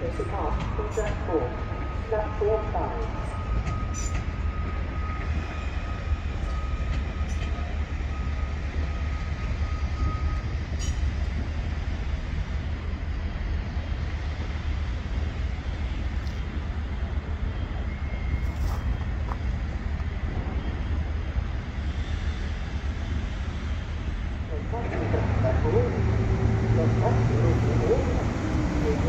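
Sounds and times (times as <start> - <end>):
distant train rumble: 0.0 - 29.0.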